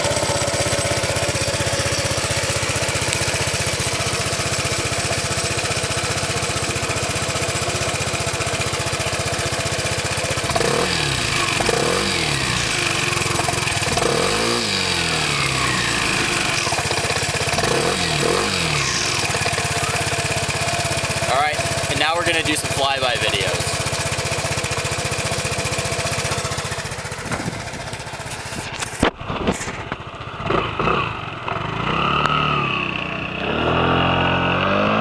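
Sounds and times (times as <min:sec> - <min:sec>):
scooter engine idling and revving: 0:00.0 - 0:35.0.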